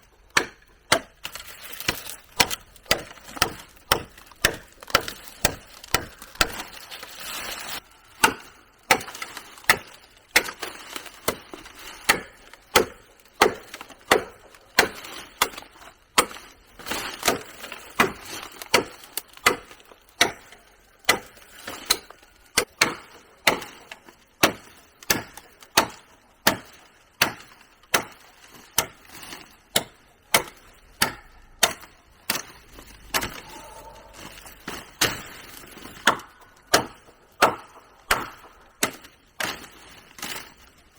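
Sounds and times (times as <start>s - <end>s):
tool chopping wood: 0.3s - 6.9s, 8.2s - 28.2s, 28.8s - 29.1s, 29.7s - 32.5s, 35.0s - 40.4s.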